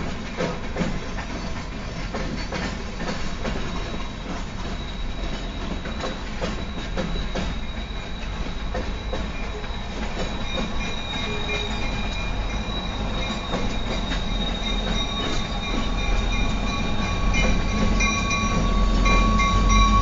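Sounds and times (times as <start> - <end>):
freight train rumbling past: 0.0 - 20.0
wheels clacking over rail joints: 0.0 - 20.0
high wheel squeal: 0.8 - 20.0.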